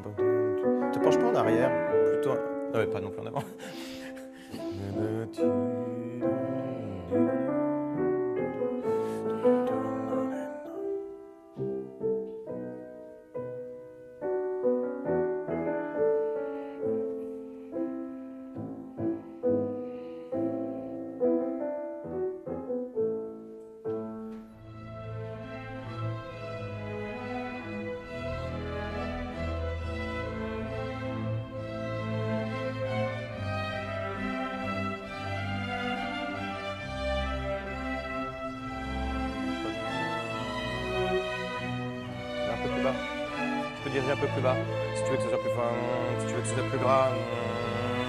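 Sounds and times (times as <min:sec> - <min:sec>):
classical piano playing: 0:00.0 - 0:48.0.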